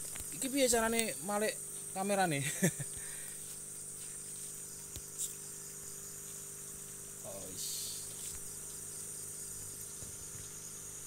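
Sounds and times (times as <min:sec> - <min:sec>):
crickets chirring: 0:00.0 - 0:11.0
steady low hum: 0:00.0 - 0:11.0.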